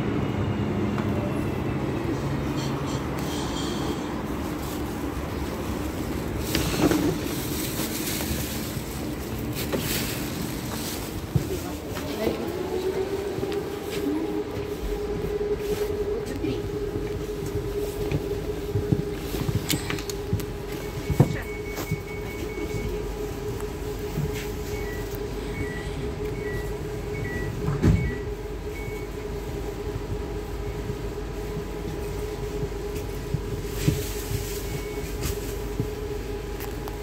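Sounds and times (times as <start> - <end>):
electric train hum: 0.0 - 37.0.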